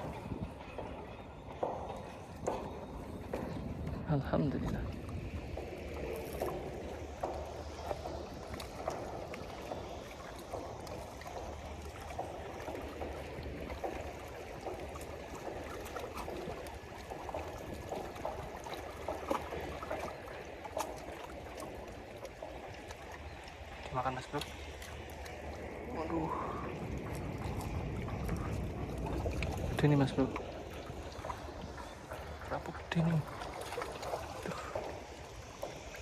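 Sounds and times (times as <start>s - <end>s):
small water splashes: 0.0s - 36.0s
waves lapping against rocks: 0.0s - 36.0s.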